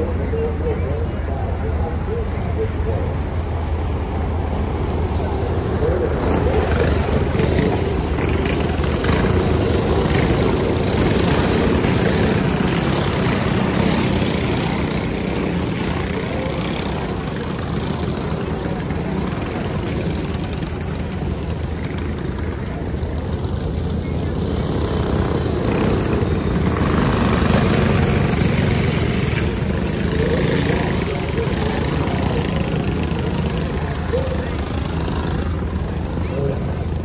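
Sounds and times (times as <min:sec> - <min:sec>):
kart passing close: 0:00.0 - 0:37.0
racing kart engines droning: 0:00.0 - 0:37.0.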